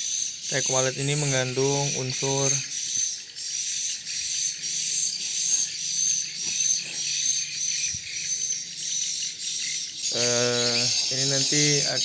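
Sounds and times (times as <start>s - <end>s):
swiftlets chirping: 0.0s - 12.0s.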